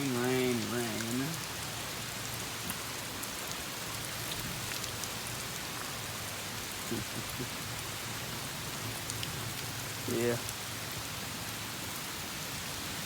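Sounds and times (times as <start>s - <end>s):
heavy rain hiss: 0.0s - 13.0s
raindrops ticking close by: 0.0s - 13.0s.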